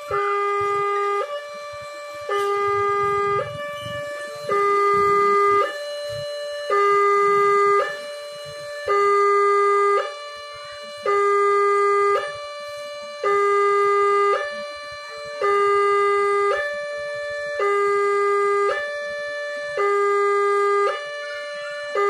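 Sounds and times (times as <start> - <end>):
two-tone level-crossing alarm: 0.0 - 22.0.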